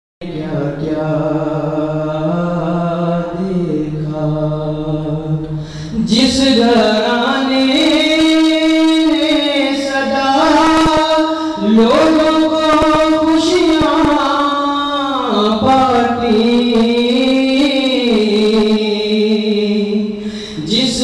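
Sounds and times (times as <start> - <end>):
man chanting into a microphone: 0.2 - 21.0.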